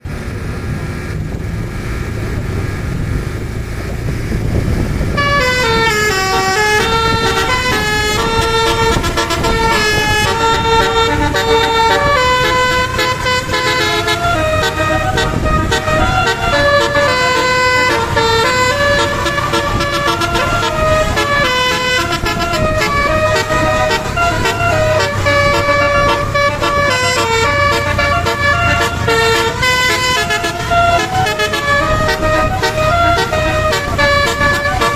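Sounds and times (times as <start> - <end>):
vehicle engine running: 0.0 - 34.9
multi-tone vehicle horn tune: 4.5 - 34.9.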